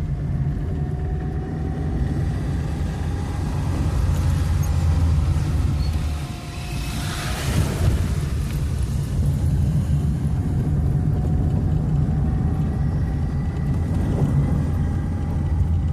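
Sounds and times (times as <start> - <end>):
car engine low rumble: 0.0 - 15.9.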